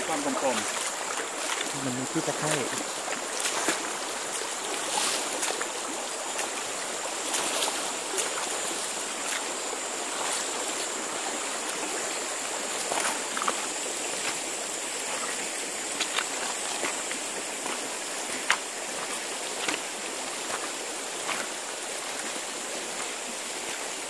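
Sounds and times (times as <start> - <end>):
feet wading through water: 0.0 - 24.0
stream flowing over rocks: 0.0 - 24.0.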